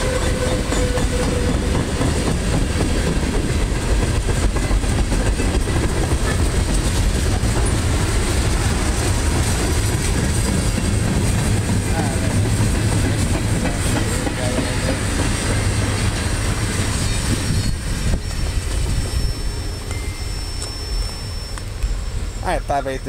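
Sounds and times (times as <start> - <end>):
freight cars rolling on rails: 0.0 - 23.0.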